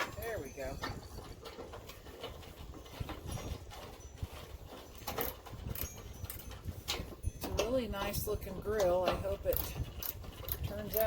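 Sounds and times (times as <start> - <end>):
grill parts clattering: 0.0 - 11.0.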